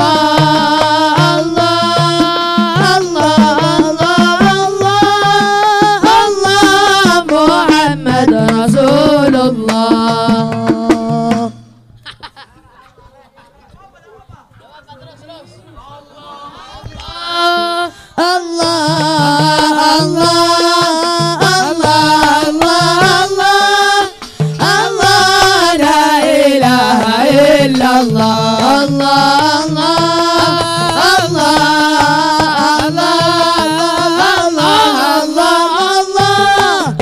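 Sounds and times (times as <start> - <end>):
men singing long wavering notes: 0.0 - 11.6, 16.1 - 37.0
frame drums: 0.0 - 14.5, 16.8 - 37.0.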